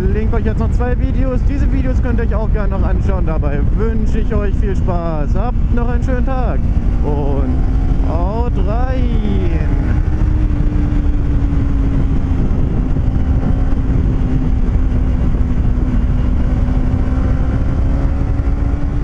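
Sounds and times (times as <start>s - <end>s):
motorcycle engine cruising: 0.0s - 19.0s
wind rushing on microphone: 0.0s - 19.0s.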